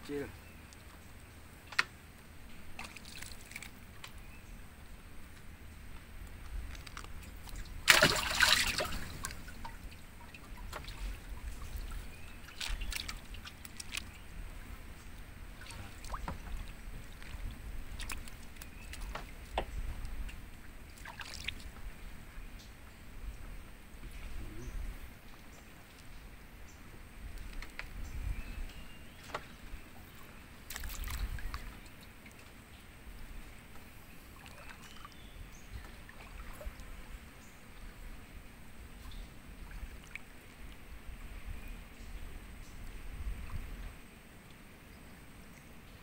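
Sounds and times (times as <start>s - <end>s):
water lapping against boat hull: 1.6s - 4.5s, 5.2s - 21.9s, 23.4s - 41.7s.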